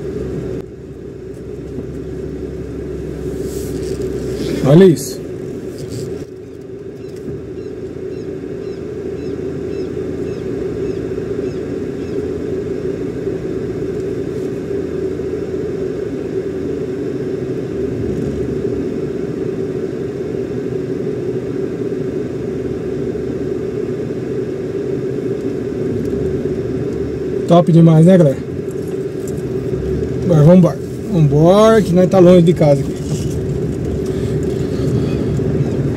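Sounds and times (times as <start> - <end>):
car engine humming: 0.0 - 35.9.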